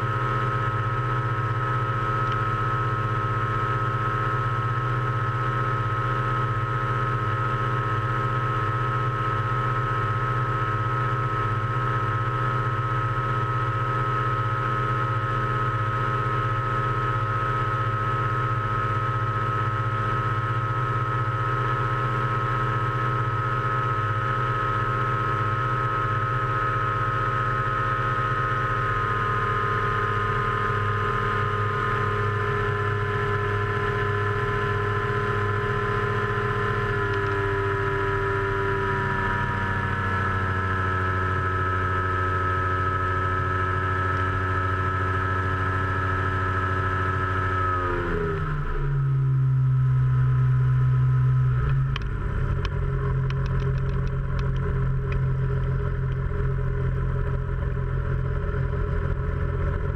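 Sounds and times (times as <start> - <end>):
aircraft engine and propeller: 0.0 - 59.9.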